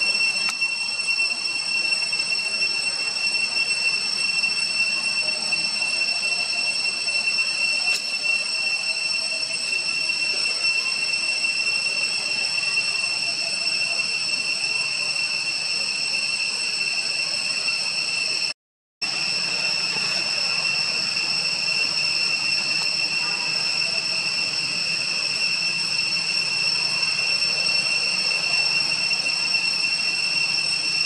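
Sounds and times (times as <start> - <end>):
insect chorus drone: 0.0 - 31.0.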